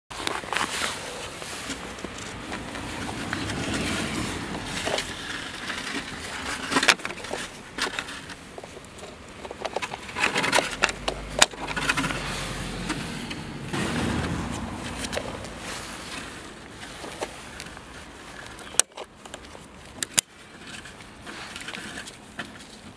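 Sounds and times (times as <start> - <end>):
plastic clicks and scraping: 0.1 - 22.9.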